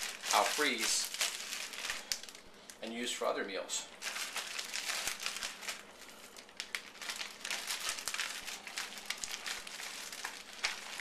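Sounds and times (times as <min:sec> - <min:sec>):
plastic bag crinkling: 0:00.0 - 0:03.0, 0:03.9 - 0:11.0.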